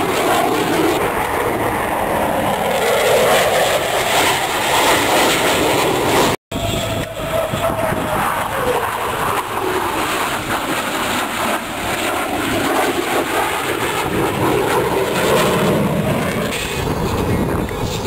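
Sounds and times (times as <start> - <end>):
propeller airplane engine droning: 0.0 - 18.0.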